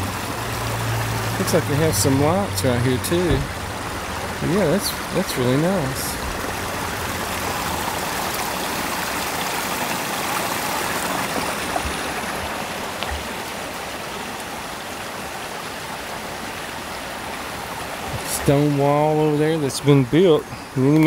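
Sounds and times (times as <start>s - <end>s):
creek babbling over stones: 0.0s - 21.0s.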